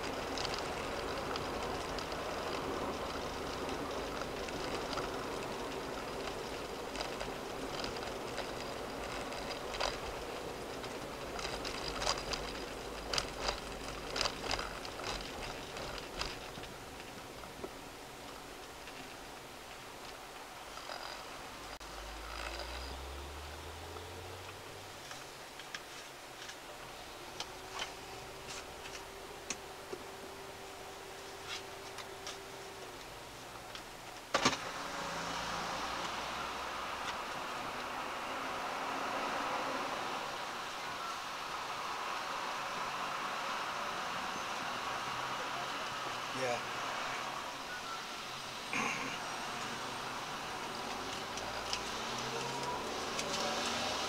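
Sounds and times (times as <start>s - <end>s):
car driving on concrete road: 0.0s - 54.0s.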